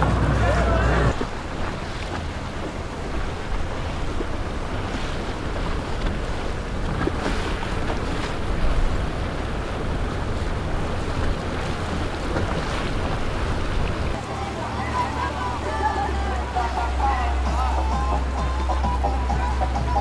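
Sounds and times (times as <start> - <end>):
boat motor rumbling: 0.0 - 20.0
water rushing: 0.0 - 20.0.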